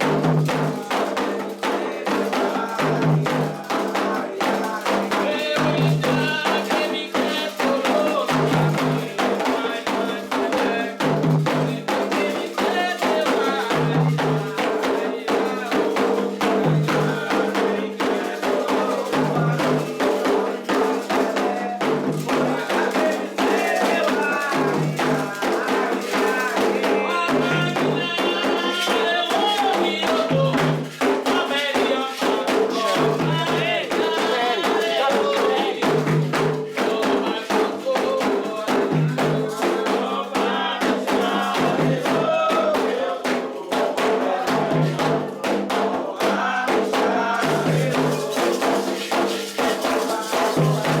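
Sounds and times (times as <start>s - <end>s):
hand drums: 0.0s - 51.0s
rattling percussion: 0.0s - 51.0s
voices singing chants: 0.0s - 51.0s.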